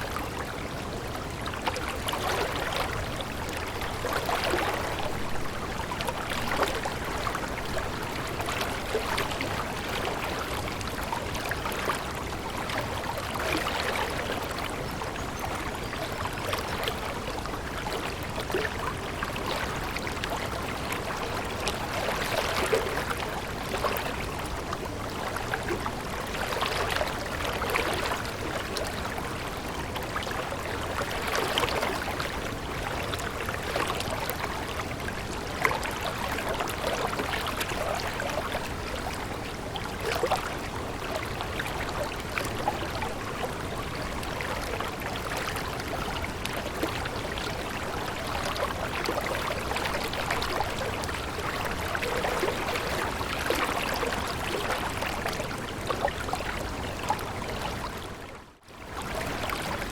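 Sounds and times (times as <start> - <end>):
stream water running and splashing: 0.0 - 59.9.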